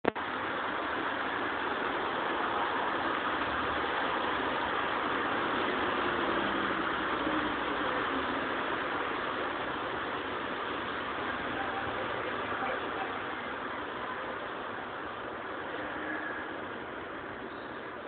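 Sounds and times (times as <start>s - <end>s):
rain hissing on street: 0.0s - 18.0s.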